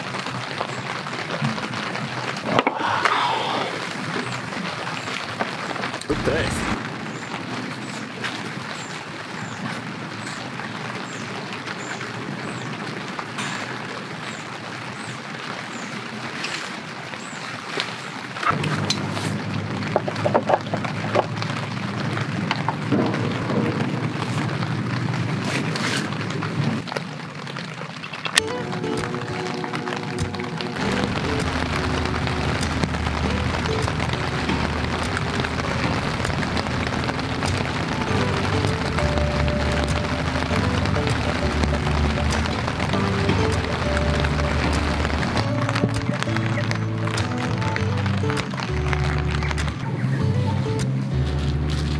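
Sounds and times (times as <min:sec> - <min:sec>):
light rain on a tent: 0:00.0 - 0:51.9.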